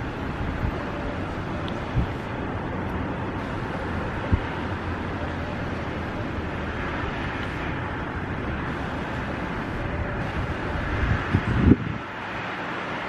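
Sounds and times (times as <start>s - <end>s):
traffic hum and hiss: 0.0s - 13.0s.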